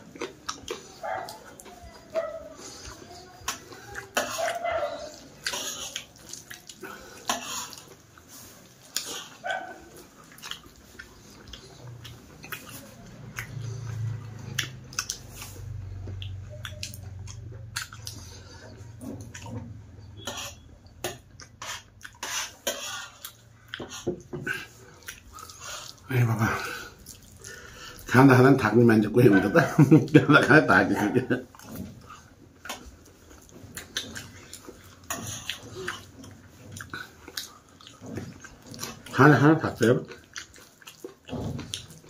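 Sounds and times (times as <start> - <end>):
mouth clicks and smacks chewing: 0.0 - 28.1, 31.5 - 42.0.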